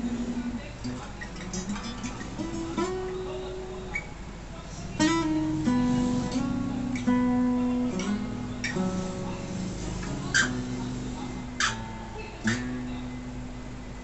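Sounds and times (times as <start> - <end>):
acoustic guitar plucked melody: 0.0 - 14.0.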